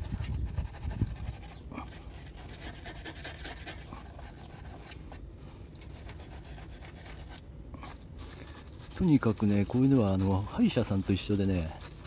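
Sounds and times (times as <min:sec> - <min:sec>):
wire brush scrubbing siding: 0:00.0 - 0:12.0.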